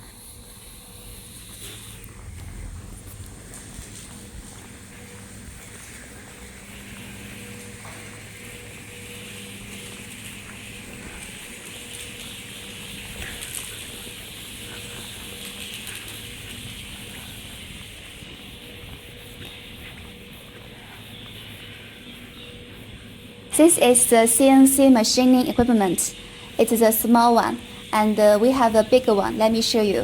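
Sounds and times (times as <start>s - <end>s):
hissing rattle: 0.0s - 30.0s
industrial machinery hum: 0.0s - 30.0s.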